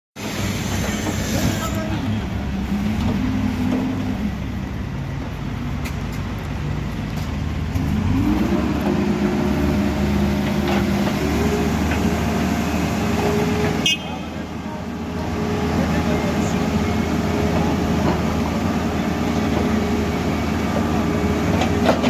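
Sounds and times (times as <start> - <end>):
diesel engine revving: 0.2 - 22.0.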